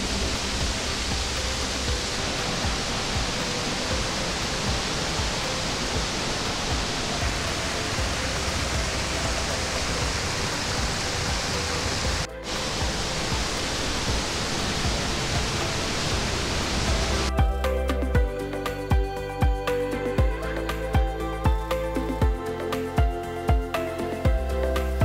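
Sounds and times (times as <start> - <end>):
faint music: 0.0 - 25.0
rush of falling water: 0.0 - 25.0.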